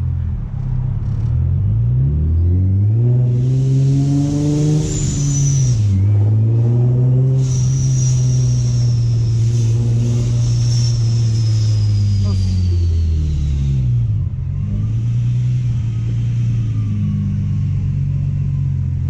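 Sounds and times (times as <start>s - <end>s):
car engine accelerating: 0.0s - 19.0s
supercharger whine: 0.0s - 19.0s.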